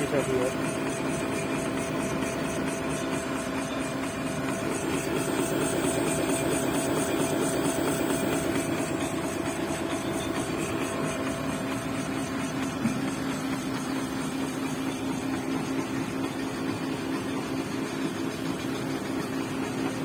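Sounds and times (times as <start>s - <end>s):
fast regular ticking: 0.0s - 16.9s
machinery humming: 0.0s - 19.6s.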